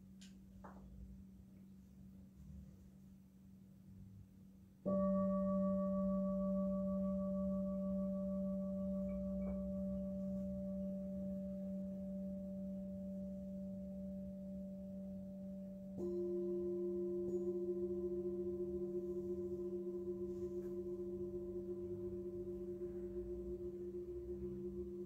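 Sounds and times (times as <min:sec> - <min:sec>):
singing bowl ringing: 0:04.9 - 0:25.0.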